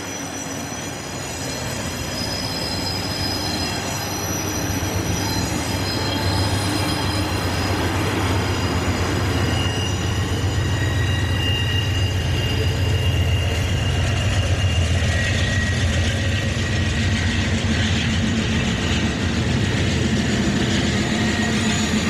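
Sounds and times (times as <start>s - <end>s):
diesel locomotive engine rumble: 0.0s - 22.0s
high wheel squeal: 0.0s - 22.0s
passenger train rolling past: 0.0s - 22.0s.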